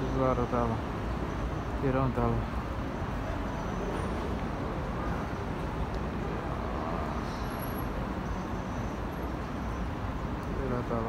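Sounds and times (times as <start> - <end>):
city street traffic hum: 0.0 - 11.0.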